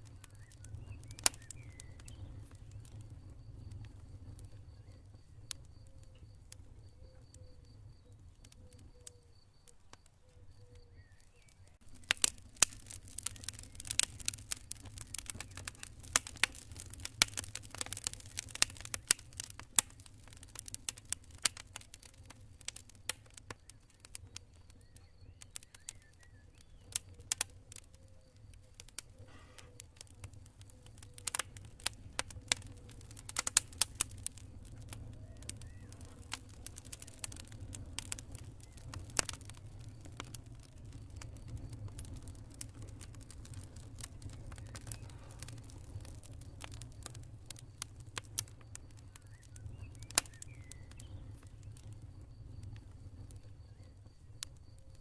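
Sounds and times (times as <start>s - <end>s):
campfire crackling and popping: 0.0s - 55.0s
cricket chirping: 0.0s - 55.0s.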